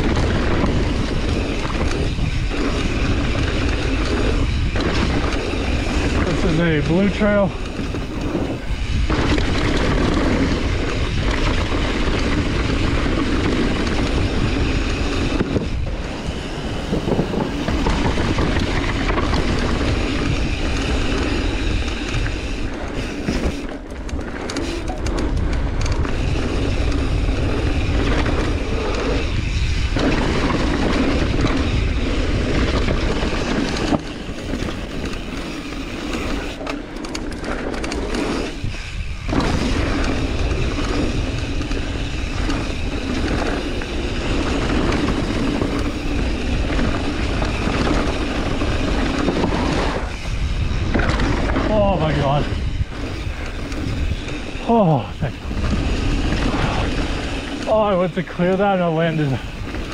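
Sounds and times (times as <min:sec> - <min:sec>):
bike tyres rushing on dirt: 0:00.0 - 0:59.9
wind buffeting microphone: 0:00.0 - 0:59.9.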